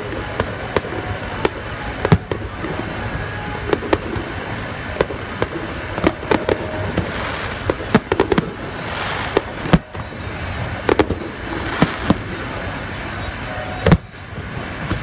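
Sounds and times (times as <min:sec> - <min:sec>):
fireworks popping and banging: 0:00.0 - 0:15.0
steady background noise: 0:00.0 - 0:15.0.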